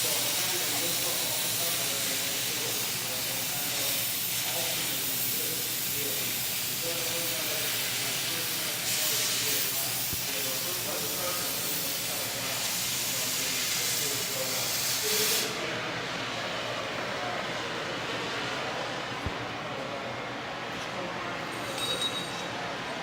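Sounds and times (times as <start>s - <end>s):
cutting torch hissing: 0.0s - 18.5s.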